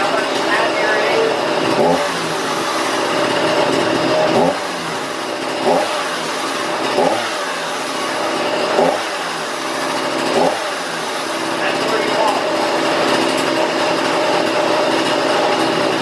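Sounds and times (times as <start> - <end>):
chainsaw engine revving: 0.0 - 16.0.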